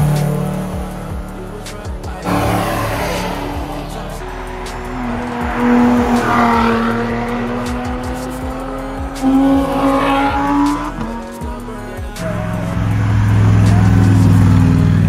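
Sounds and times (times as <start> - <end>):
cars rushing past: 0.0 - 15.0
sports car engines revving high: 0.0 - 15.0.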